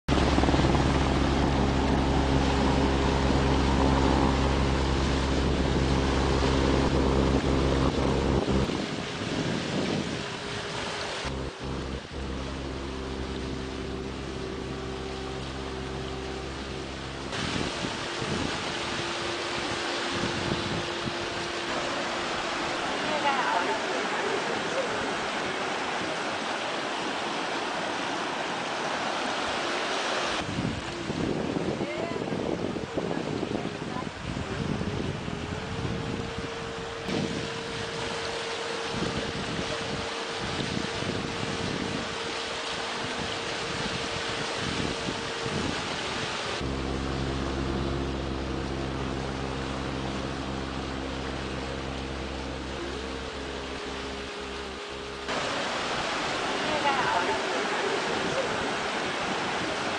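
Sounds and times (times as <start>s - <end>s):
low motor drone: 0.1s - 59.9s
rushing wind noise: 0.1s - 59.9s.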